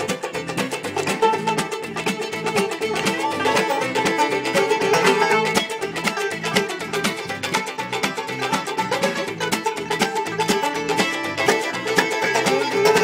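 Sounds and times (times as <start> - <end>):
bowed fiddle melody: 0.0 - 13.0
clawhammer banjo: 0.0 - 13.0
guitar strumming: 0.0 - 13.0.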